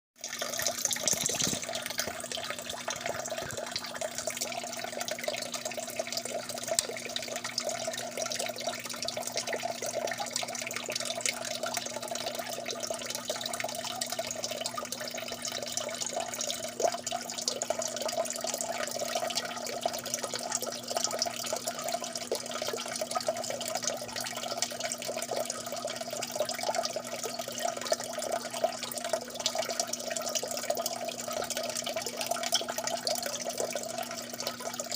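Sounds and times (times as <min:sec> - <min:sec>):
water dripping and trickling: 0:00.2 - 0:34.9.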